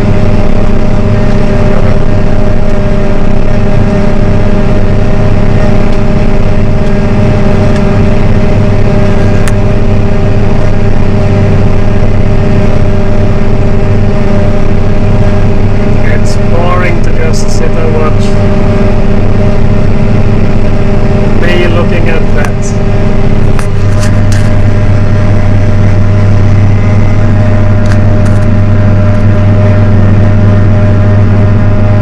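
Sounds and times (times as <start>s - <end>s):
tractor and forage harvester droning: 0.0s - 32.0s.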